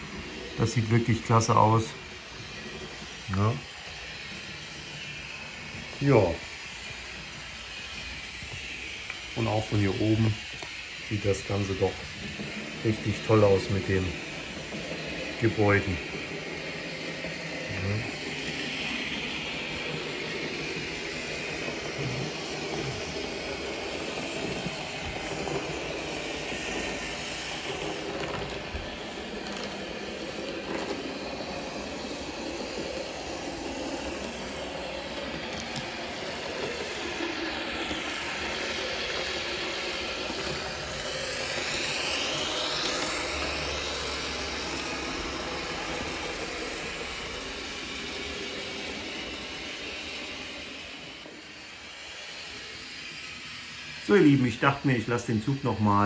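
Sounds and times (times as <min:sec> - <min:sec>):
model train running: 0:00.0 - 0:56.0.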